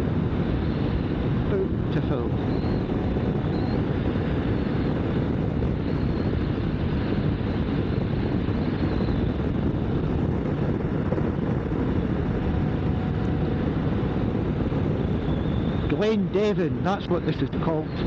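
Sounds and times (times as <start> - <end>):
motorcycle engine drone: 0.0 - 18.0
wind rush over microphone: 0.0 - 18.0.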